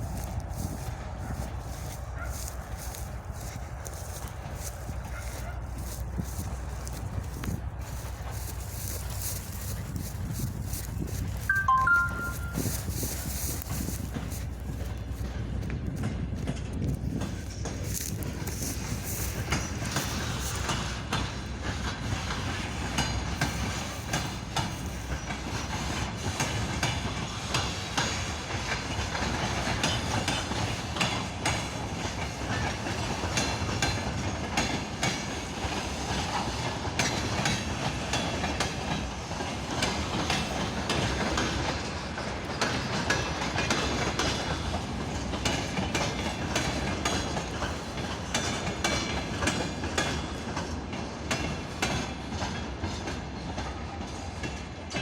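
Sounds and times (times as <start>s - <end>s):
train wheels clattering over rail joints: 0.0s - 11.5s, 12.6s - 55.0s
train rumble: 0.0s - 55.0s.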